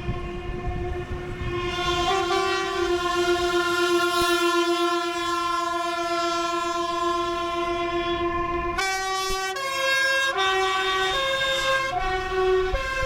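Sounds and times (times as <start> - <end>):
truck air horn blast: 0.0 - 13.0.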